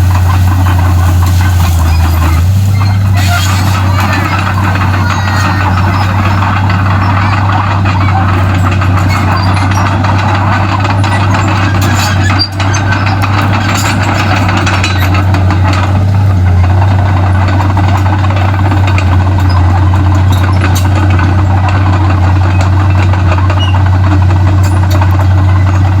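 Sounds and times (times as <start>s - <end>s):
bulldozer diesel engine running: 0.0s - 26.0s
clicks and clanks: 0.0s - 26.0s.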